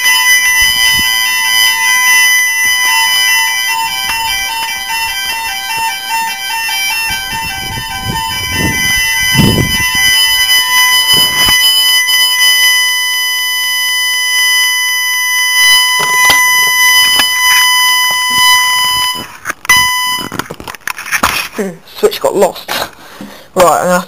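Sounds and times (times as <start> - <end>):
fire alarm sounder: 0.0 - 20.6.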